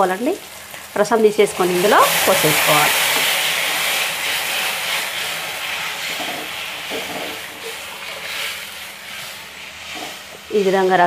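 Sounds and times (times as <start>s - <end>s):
liquid sizzling in hot pan: 0.0s - 11.0s.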